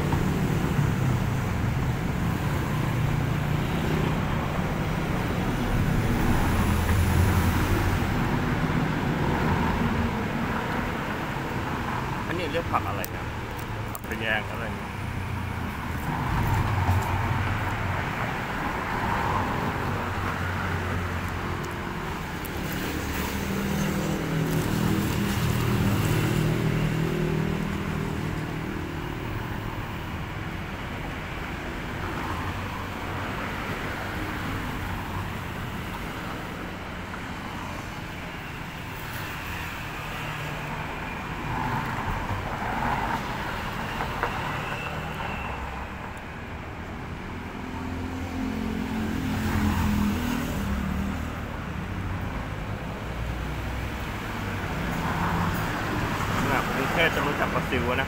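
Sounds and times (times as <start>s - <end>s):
passing vehicles: 0.0s - 58.0s.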